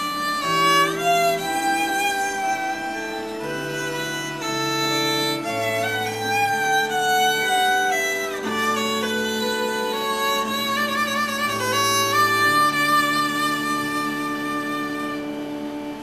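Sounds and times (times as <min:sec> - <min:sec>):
bowed violin melody: 0:00.0 - 0:16.0
lower accompanying notes: 0:00.0 - 0:16.0.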